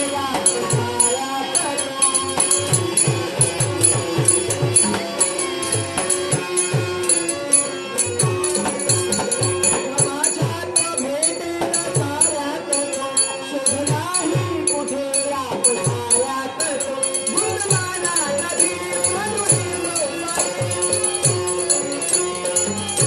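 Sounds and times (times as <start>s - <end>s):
hand drum beating: 0.0s - 23.0s
held melodic drone tone: 0.0s - 23.0s
small jingling cymbals: 0.0s - 23.0s.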